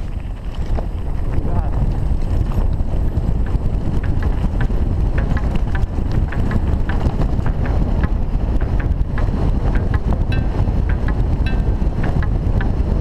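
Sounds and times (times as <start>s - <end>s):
bike tyres on gravel: 0.0s - 13.0s
clicks and rattles from bike: 0.0s - 13.0s
wind buffeting microphone: 0.0s - 13.0s.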